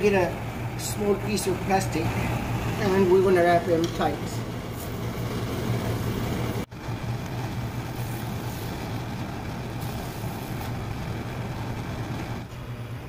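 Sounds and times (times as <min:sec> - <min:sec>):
gas burner rumble and hiss: 0:00.0 - 0:13.0.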